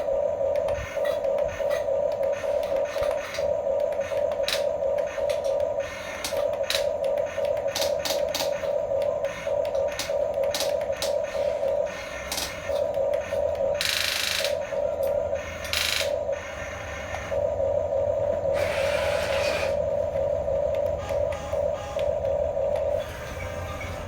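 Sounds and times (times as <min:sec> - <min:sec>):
small electric motors whining: 0:00.6 - 0:17.4, 0:18.4 - 0:24.0.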